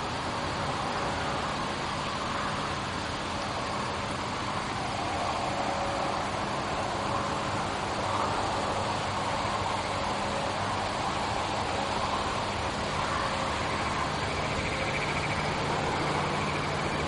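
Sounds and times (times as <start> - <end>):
steady rushing drone: 0.0 - 17.0.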